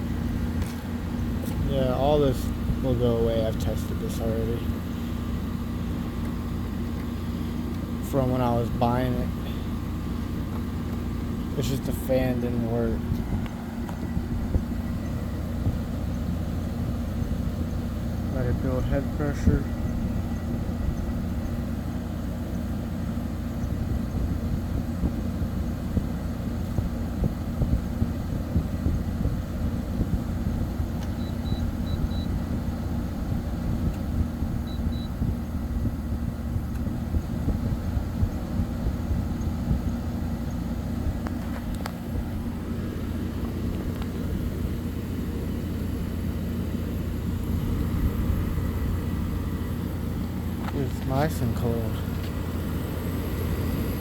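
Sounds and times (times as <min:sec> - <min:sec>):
air conditioner compressor hum: 0:00.0 - 0:54.0
air conditioner fan rushing: 0:00.0 - 0:54.0.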